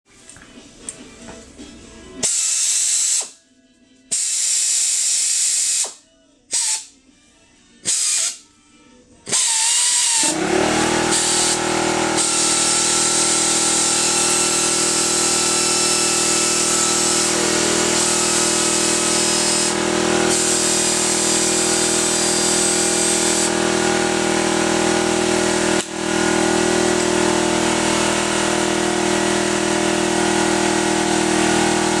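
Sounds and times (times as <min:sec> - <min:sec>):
pneumatic air drill whining: 0:02.2 - 0:03.4, 0:04.1 - 0:06.9, 0:07.8 - 0:08.4, 0:09.2 - 0:32.0.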